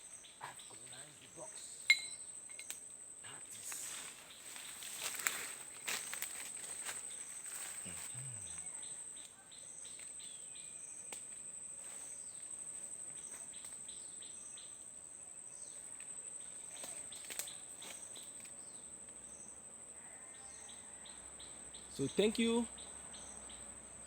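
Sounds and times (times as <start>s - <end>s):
high-pitched insect trill: 0.0s - 24.0s
short insect chirp: 0.0s - 24.0s.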